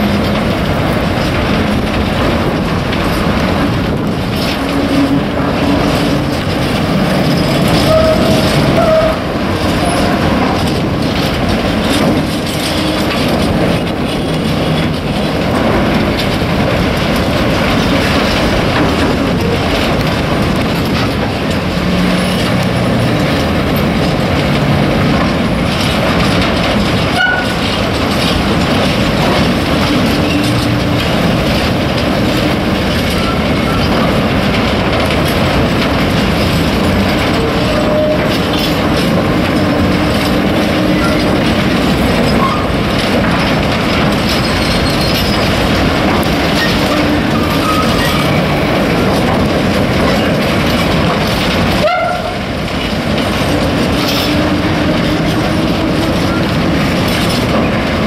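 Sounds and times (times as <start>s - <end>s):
wagons rumbling and clattering: 0.0s - 58.0s.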